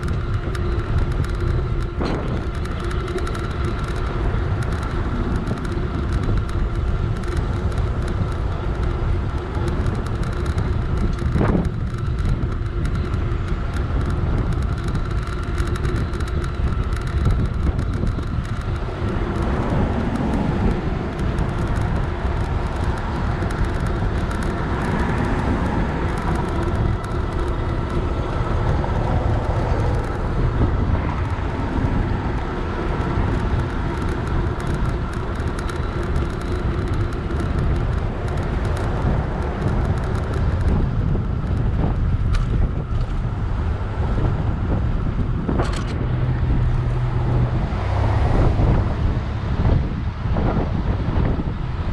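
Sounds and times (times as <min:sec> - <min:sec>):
road noise: 0:00.0 - 0:51.9
rushing wind: 0:00.0 - 0:51.9.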